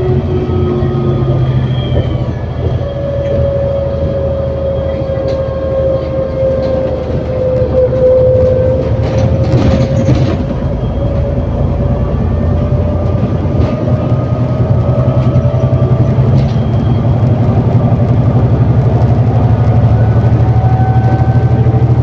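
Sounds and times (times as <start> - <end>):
bus engine drone: 0.0 - 22.0
rising gearbox whine: 0.0 - 22.0.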